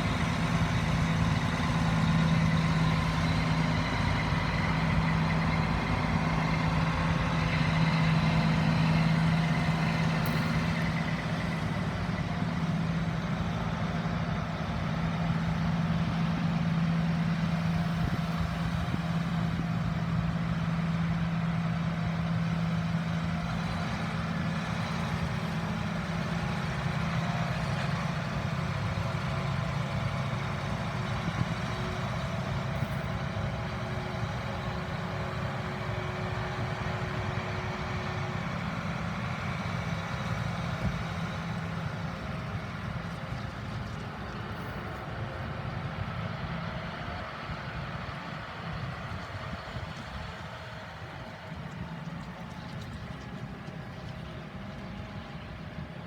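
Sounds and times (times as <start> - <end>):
tractor engines droning: 0.0 - 56.0.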